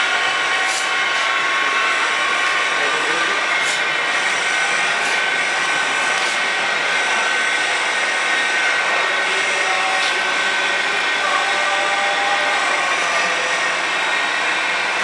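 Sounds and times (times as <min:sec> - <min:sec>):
mixer grinder motor whine: 0:00.0 - 0:15.0.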